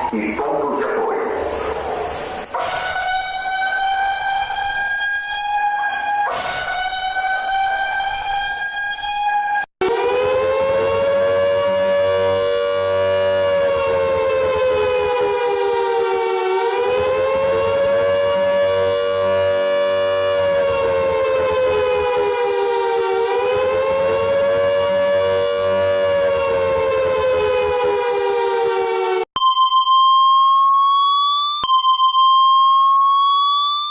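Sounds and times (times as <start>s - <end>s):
alarm tone: 1.9s - 14.0s, 14.6s - 33.9s
civil defense siren wailing: 2.2s - 33.9s.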